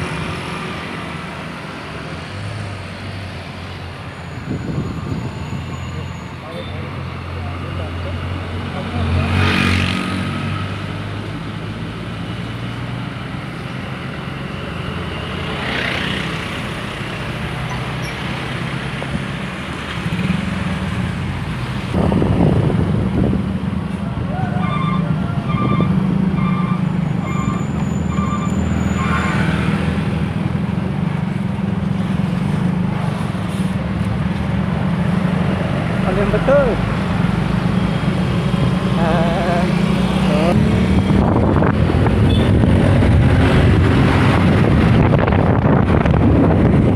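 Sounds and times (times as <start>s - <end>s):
heavy truck engines rumbling: 0.0s - 46.9s.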